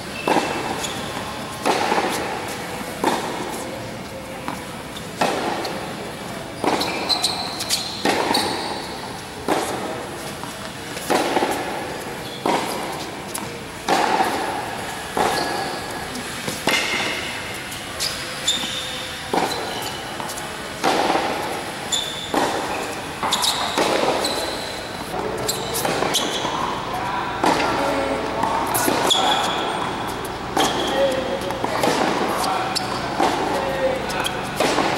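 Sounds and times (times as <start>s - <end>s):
tennis ball bouncing on hard court: 0.2s - 3.6s, 4.4s - 5.9s, 6.6s - 26.8s, 27.4s - 34.9s
tennis ball struck by racquets: 1.6s - 3.6s, 5.2s - 6.0s, 6.6s - 17.6s, 19.3s - 26.8s, 27.4s - 34.9s.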